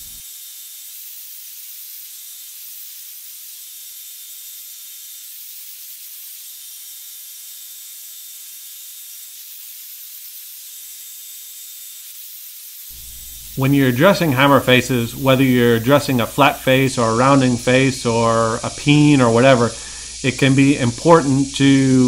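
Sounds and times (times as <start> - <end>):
belt grinder hissing: 0.0 - 22.0.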